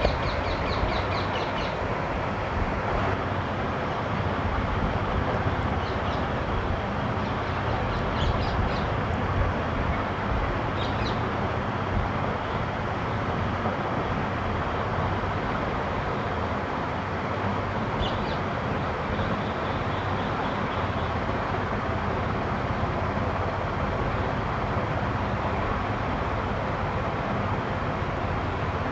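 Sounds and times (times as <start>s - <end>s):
outdoor rumble and hiss: 0.0s - 28.9s.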